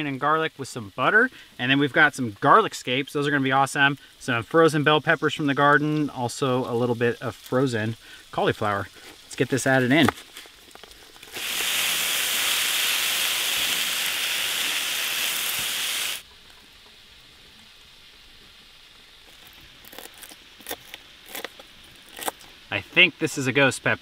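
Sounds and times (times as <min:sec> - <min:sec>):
vegetables sizzling in butter: 0:00.0 - 0:16.3, 0:17.8 - 0:24.0.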